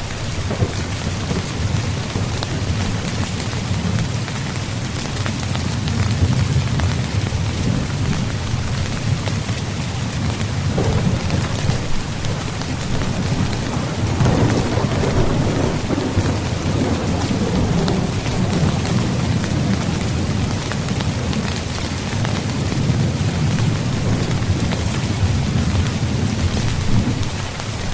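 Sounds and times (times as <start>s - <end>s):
low rumble of thunder: 0.0s - 27.9s
rain pattering on tent fabric: 0.0s - 27.9s.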